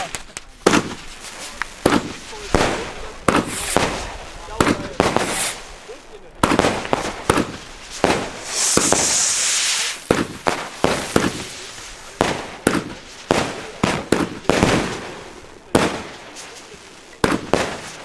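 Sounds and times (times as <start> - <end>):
firework bangs: 0.0 - 18.0
firework hissing burst: 0.0 - 18.0.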